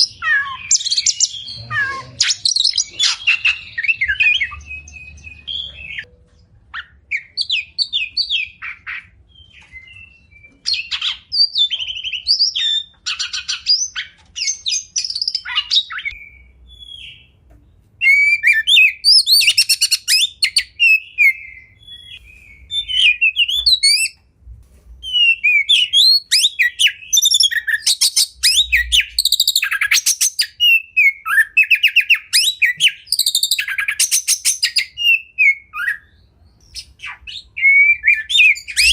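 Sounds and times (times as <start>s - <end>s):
bird singing whistles and trills: 0.0s - 6.1s, 6.7s - 17.4s, 18.0s - 24.2s, 25.0s - 38.9s.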